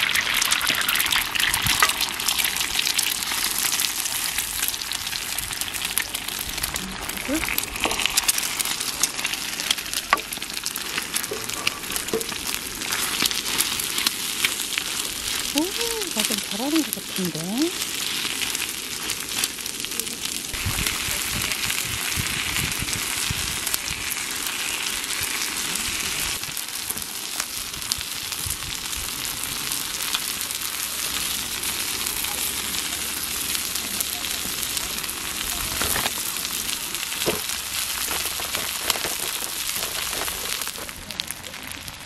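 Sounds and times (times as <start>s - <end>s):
food sizzling in a hot pan: 0.0s - 42.0s.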